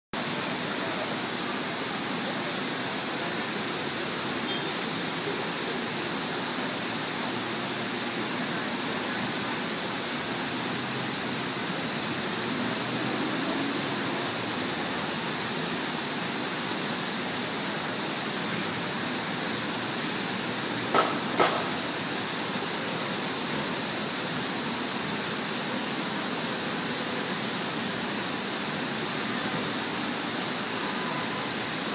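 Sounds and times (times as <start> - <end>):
waterfall rushing: 0.2 - 31.9.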